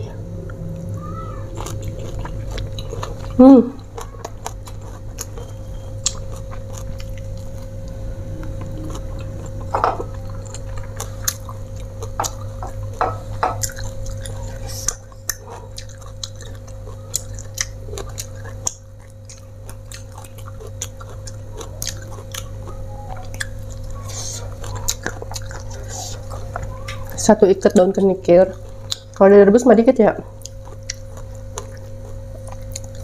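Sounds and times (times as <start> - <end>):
steady low hum: 0.0 - 33.0
chewing raw greens: 0.5 - 29.3, 30.3 - 33.0.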